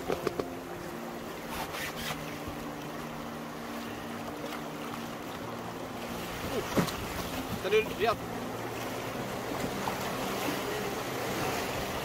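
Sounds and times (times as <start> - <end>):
water rushing around canoe: 0.0 - 12.0.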